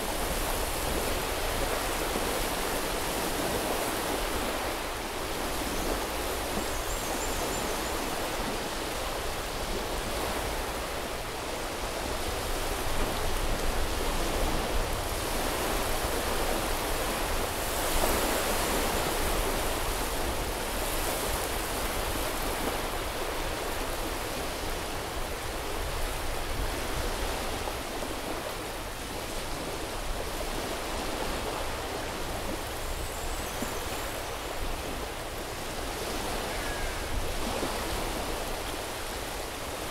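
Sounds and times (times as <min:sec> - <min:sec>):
surf washing onto a beach: 0:00.0 - 0:39.9.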